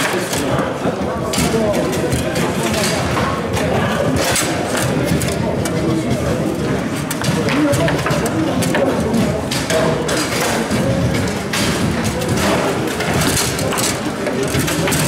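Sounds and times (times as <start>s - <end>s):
busy hall din: 0.0s - 15.0s
foosball rods and ball knocking: 0.0s - 15.0s.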